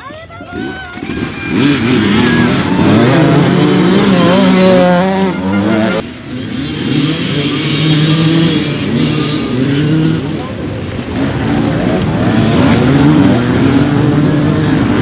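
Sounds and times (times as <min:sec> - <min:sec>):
dirt bike engine revving: 0:00.4 - 0:15.0.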